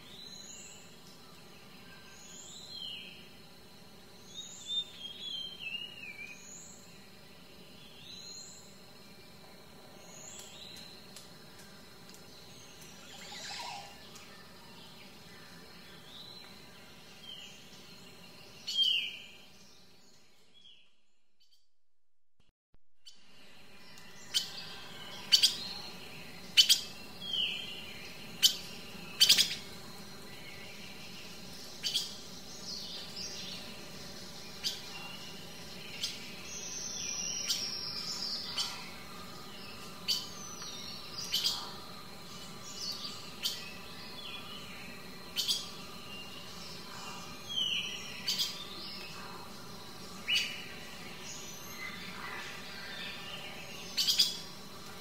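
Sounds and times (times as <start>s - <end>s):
faint steady hum: 0.0s - 20.9s, 23.0s - 55.0s.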